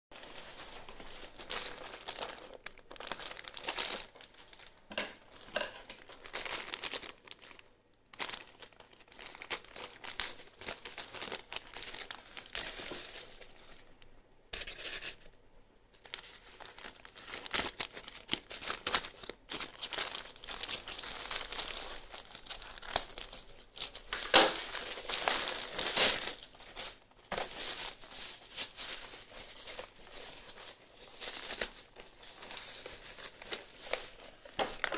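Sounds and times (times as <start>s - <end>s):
bubble wrap crinkling: 0.1s - 14.0s, 16.0s - 34.9s
plastic bag crinkling: 0.2s - 13.9s, 16.0s - 34.9s.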